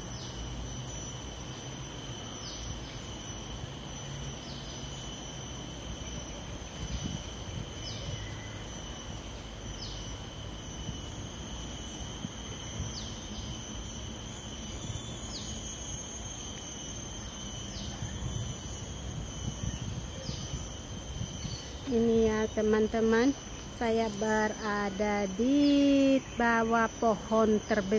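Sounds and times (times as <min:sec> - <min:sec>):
insects droning: 0:00.0 - 0:27.9.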